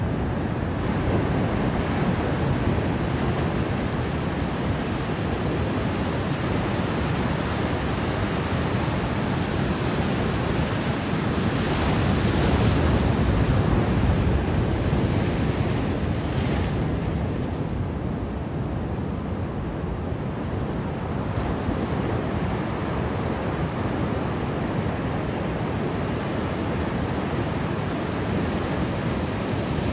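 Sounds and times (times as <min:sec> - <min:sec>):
ocean surf washing on beach: 0:00.0 - 0:29.9
wind buffeting microphone: 0:00.0 - 0:29.9.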